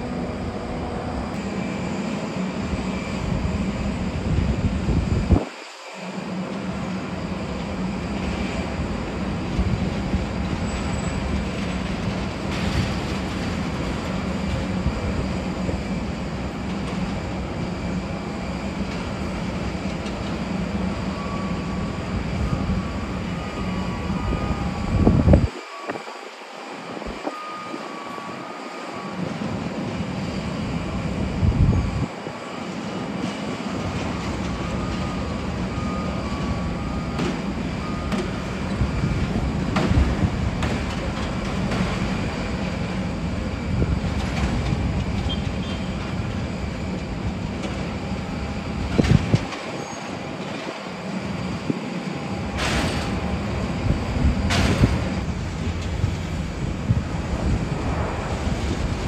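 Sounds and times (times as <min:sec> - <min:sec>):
jet aircraft hum and whine: 0:00.0 - 0:59.0.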